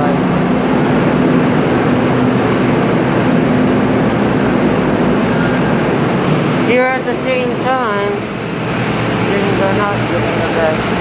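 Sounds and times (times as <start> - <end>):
moving vehicle running noise: 0.0 - 11.0.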